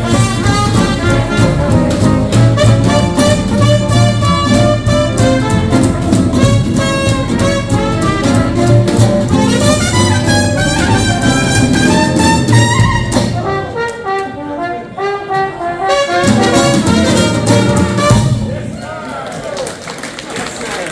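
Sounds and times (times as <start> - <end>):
brass horns: 0.0 - 18.7
swing jazz band playing: 0.0 - 18.7.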